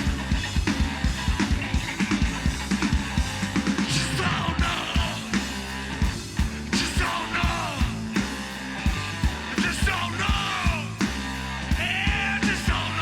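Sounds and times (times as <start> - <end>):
bass guitar: 0.0 - 13.0
drum kit beat: 0.0 - 13.0.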